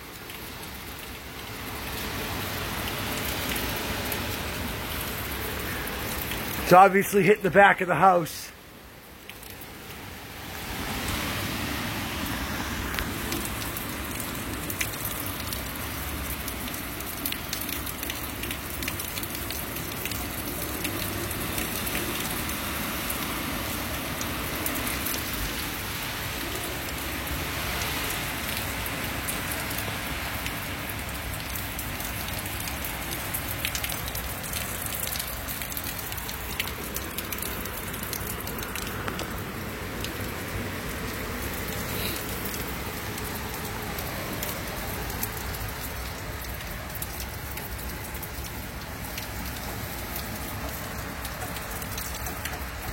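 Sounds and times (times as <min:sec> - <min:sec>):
heavy rain drumming: 0:00.0 - 0:52.9.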